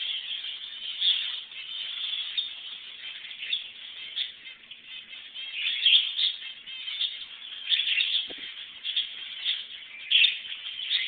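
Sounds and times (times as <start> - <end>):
birds chirping and chattering: 0.0 - 11.0.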